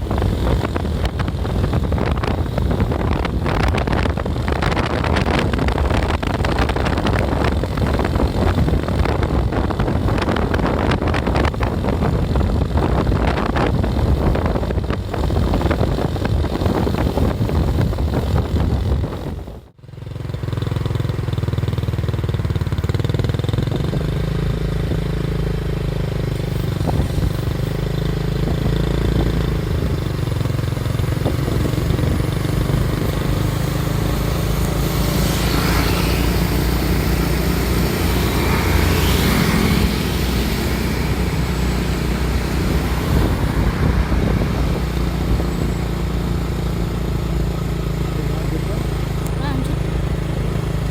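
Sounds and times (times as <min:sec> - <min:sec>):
road and wind noise: 0:00.0 - 0:50.9
vehicle engine running: 0:00.0 - 0:50.9.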